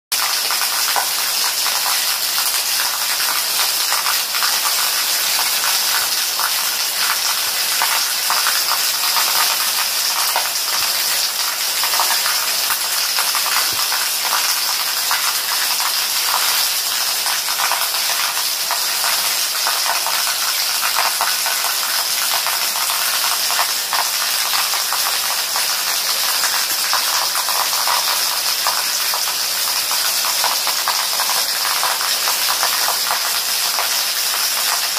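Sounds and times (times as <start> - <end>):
rain falling on leaves: 0.2 - 34.9.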